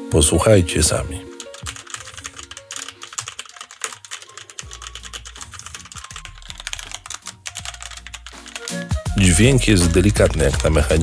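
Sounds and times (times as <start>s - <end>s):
typing on mechanical keyboard: 1.4s - 11.0s.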